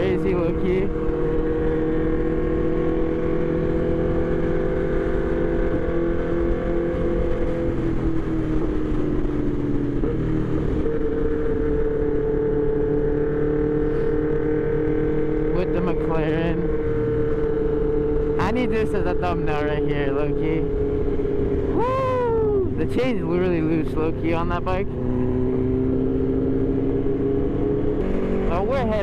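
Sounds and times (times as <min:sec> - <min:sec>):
motorcycle engine drone: 0:00.0 - 0:29.0.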